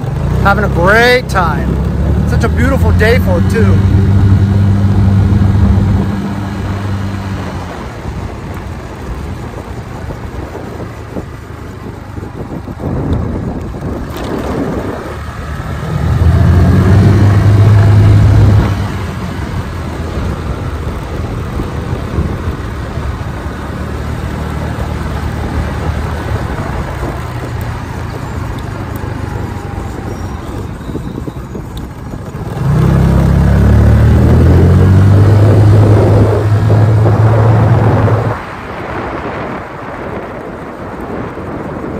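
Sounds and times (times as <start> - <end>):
scooter engine humming: 0.0 - 41.9
wind rushing over microphone: 0.0 - 41.9.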